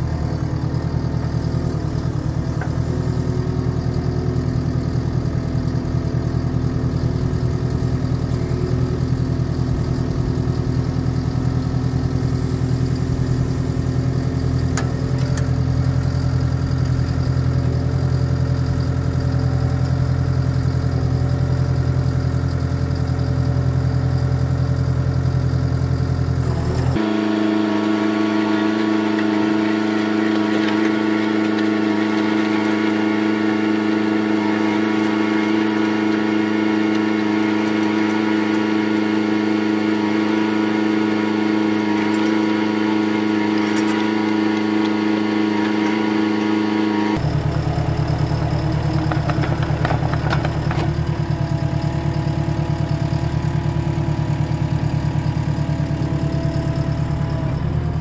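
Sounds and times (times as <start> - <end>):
diesel engine running: 0.0 - 58.0
hydraulic auger drilling: 0.0 - 58.0.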